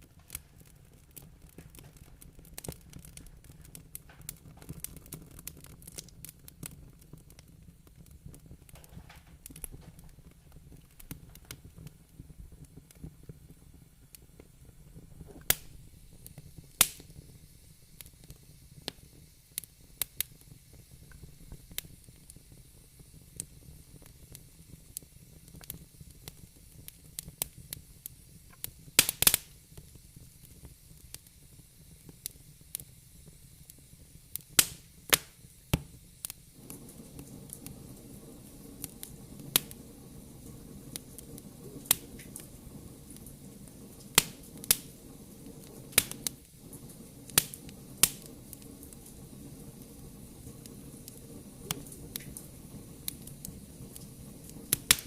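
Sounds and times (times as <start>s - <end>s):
low steady background noise: 0.0s - 55.0s
wood fire crackling: 0.0s - 55.0s.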